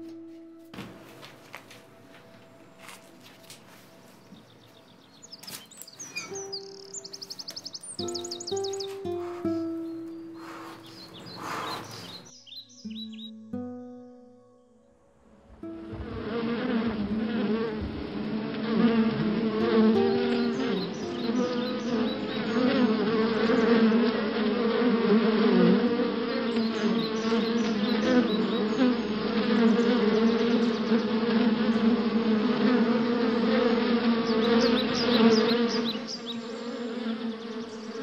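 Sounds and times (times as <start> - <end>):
honeybees buzzing: 0.0 - 13.3, 15.4 - 38.0.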